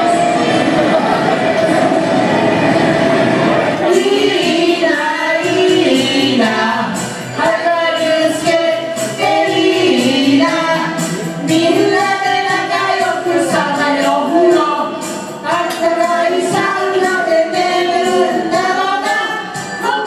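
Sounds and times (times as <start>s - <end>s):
person singing with accompaniment: 0.0s - 20.0s.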